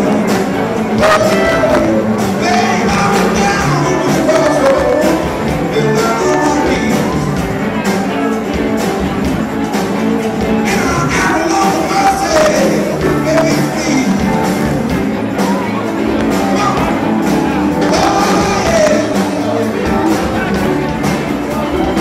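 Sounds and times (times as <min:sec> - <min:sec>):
person singing: 0:00.0 - 0:07.8, 0:10.4 - 0:22.0
drum kit: 0:00.0 - 0:22.0
electric guitar: 0:00.0 - 0:22.0
keyboard: 0:00.0 - 0:22.0.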